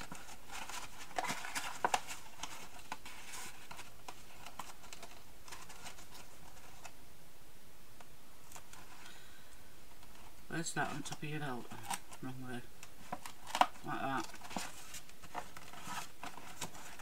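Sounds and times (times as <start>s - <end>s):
card tapping and rustling: 0.0s - 7.0s, 9.9s - 17.0s.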